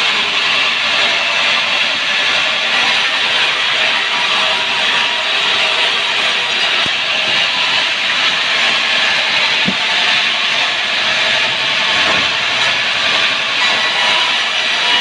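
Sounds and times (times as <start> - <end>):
saw blade cutting log: 0.0 - 15.0.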